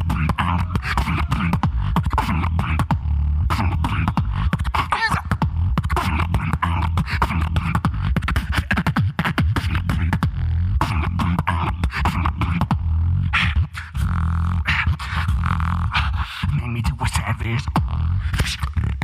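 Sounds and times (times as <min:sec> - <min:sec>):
beatboxing percussive clicks: 0:00.0 - 0:19.0
deep bass hum: 0:00.0 - 0:19.0.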